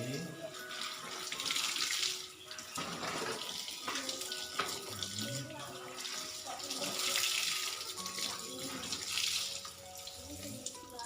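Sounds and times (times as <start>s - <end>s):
water splashing over garment: 0.6s - 10.8s.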